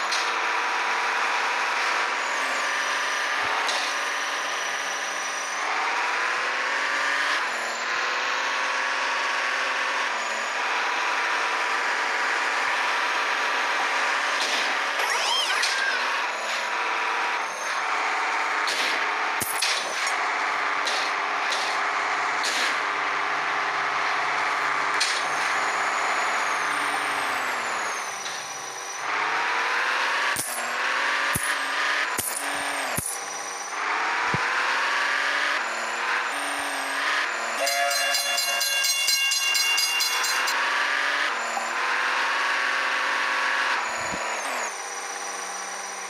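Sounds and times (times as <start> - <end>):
truck engine revving: 0.0 - 38.6, 40.1 - 46.0.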